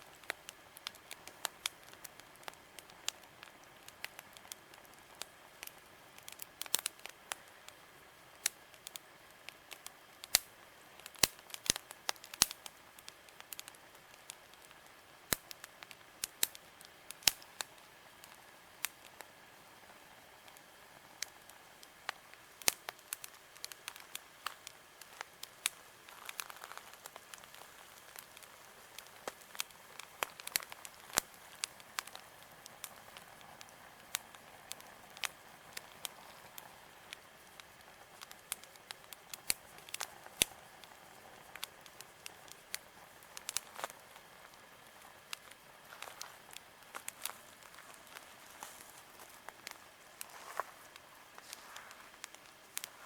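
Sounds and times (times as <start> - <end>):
campfire crackling: 0.0 - 53.0
faint steady hiss: 0.0 - 53.0.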